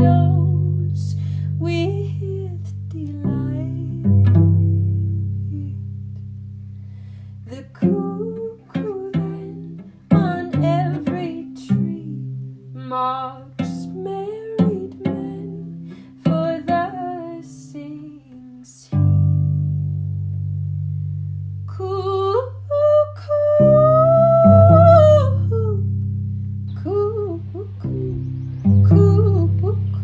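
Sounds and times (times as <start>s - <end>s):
person singing: 0.0s - 5.8s, 7.5s - 19.0s, 21.7s - 25.9s, 26.8s - 30.0s
plucked strings: 0.0s - 30.0s.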